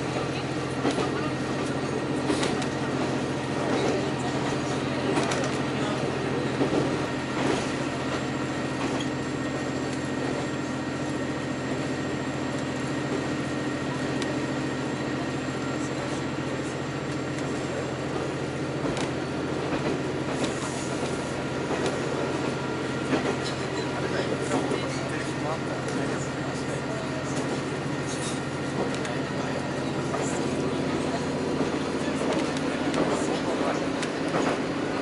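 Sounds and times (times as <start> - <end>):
diesel engine drone: 0.0 - 35.0.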